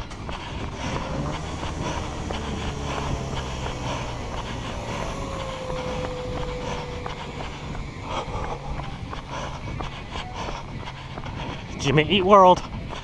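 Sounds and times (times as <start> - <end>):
low rumble: 0.0 - 11.8
steady tone gliding down: 0.0 - 12.2
runner's footfalls: 0.0 - 13.0.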